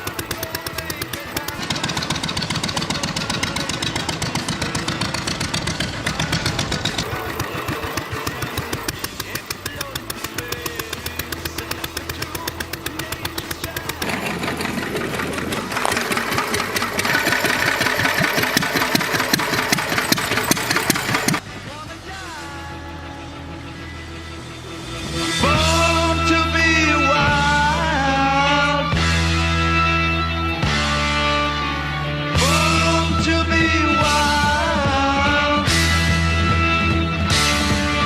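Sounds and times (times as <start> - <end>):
single-cylinder engine running: 0.0 - 38.0.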